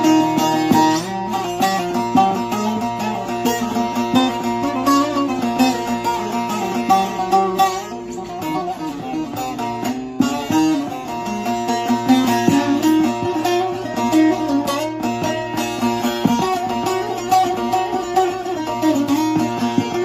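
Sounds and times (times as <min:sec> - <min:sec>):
long-neck lute picked with plectrum: 0:00.0 - 0:20.0.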